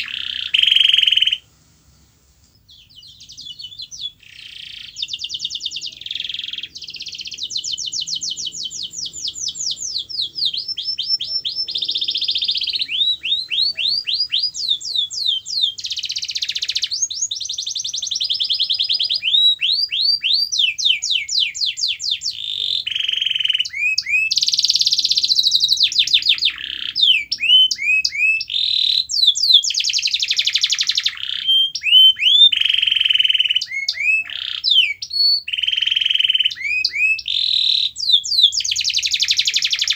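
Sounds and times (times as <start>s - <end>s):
canary singing: 0.0s - 1.5s, 2.4s - 39.9s.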